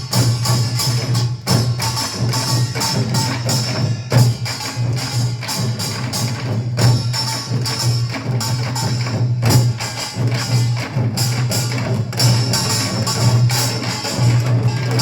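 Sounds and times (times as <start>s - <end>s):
drums and percussion ensemble: 0.0s - 15.0s.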